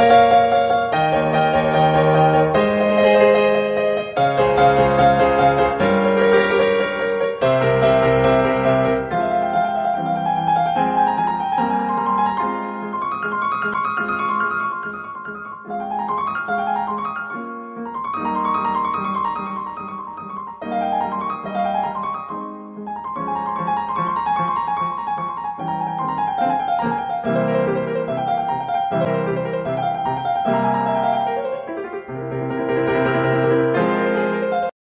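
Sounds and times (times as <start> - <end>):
piano music: 0.0 - 34.8.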